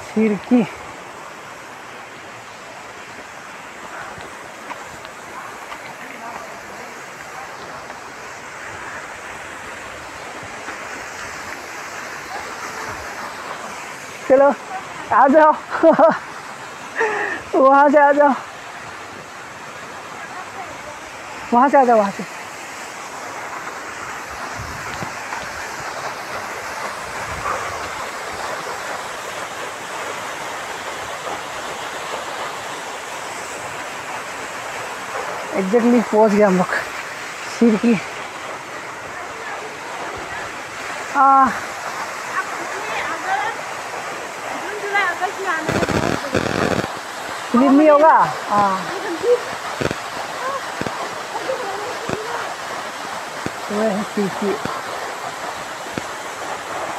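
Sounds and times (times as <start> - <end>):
waterfall pouring onto rocks: 0.0 - 56.9.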